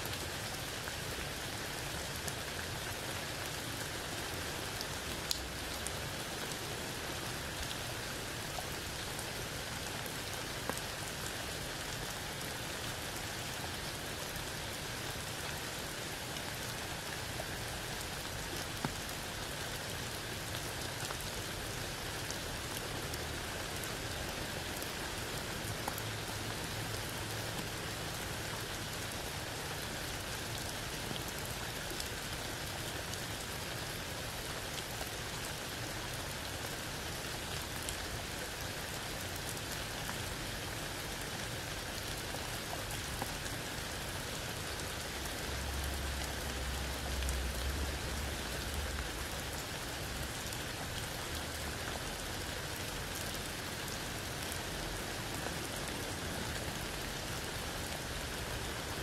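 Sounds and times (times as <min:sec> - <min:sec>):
rain falling through leaves: 0:00.0 - 0:59.0.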